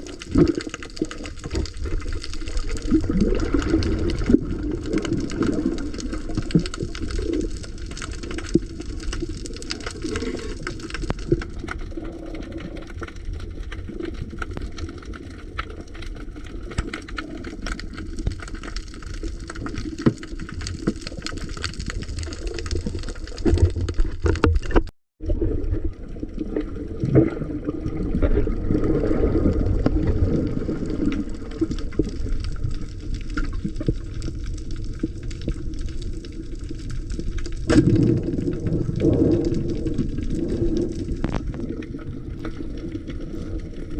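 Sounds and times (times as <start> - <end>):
small underwater clicks: 0.0 - 24.9, 28.0 - 43.9
underwater rushing and sloshing: 0.0 - 43.9.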